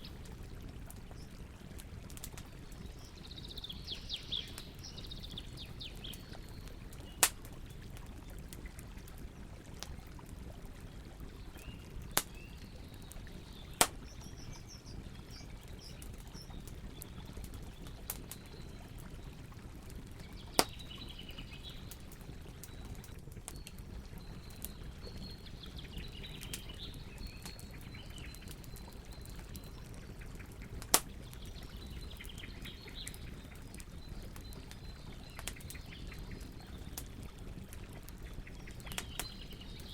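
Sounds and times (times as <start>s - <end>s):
campfire burning: 0.0s - 39.9s
fire crackling pops: 0.0s - 39.9s
small birds chirping: 0.0s - 39.9s.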